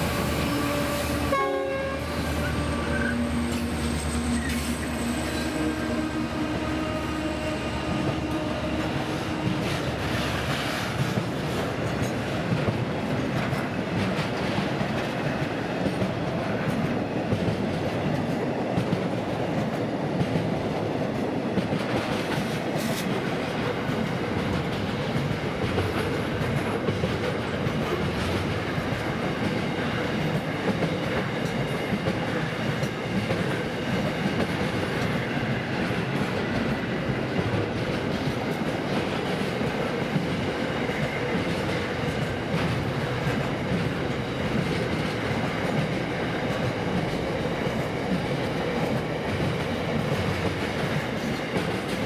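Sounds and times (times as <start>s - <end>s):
freight train wheels on rails: 0.0s - 52.0s.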